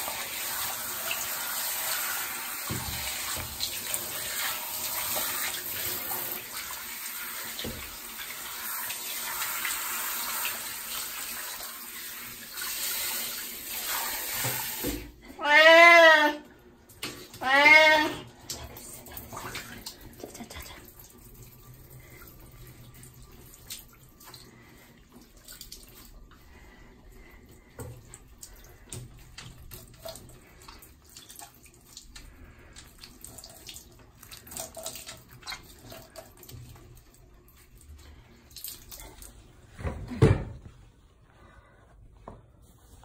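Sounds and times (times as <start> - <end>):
water drips and splashes: 0.0 - 15.1, 16.8 - 39.4
shower water spraying into bathtub: 0.0 - 16.3, 17.0 - 39.4.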